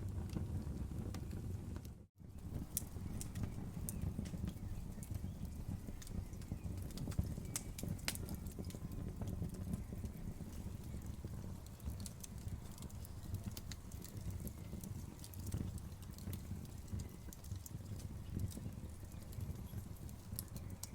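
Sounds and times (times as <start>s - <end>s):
low rumble of burning: 0.0s - 20.9s
wood fire crackling: 0.0s - 20.9s
sharp pops and snaps: 2.4s - 20.9s.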